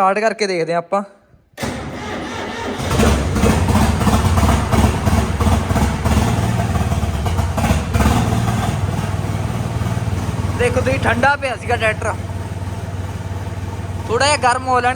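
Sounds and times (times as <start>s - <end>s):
diesel tractor engine idling: 1.6s - 14.9s.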